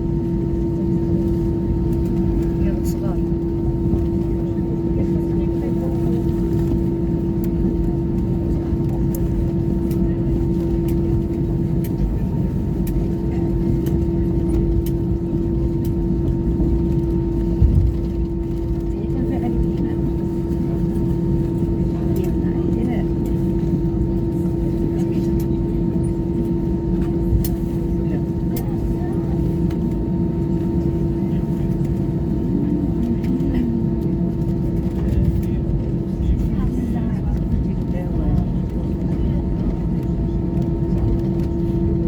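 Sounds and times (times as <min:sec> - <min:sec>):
faint passenger voices: 0:00.0 - 0:42.0
jet engines idling: 0:00.0 - 0:42.0.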